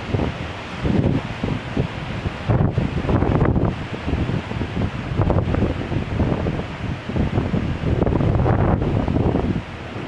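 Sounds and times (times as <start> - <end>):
storm wind buffeting microphone: 0.0 - 10.0.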